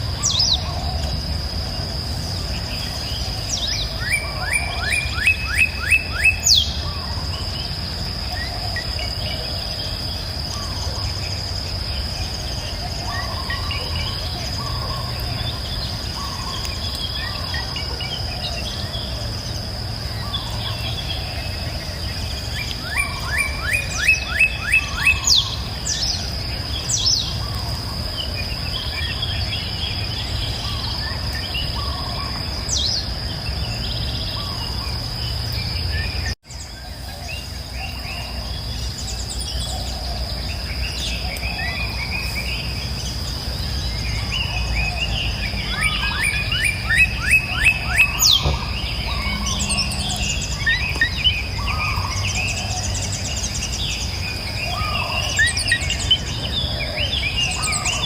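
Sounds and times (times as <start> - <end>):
birds chirping and singing: 0.0 - 58.0
high insect trill: 0.0 - 58.0.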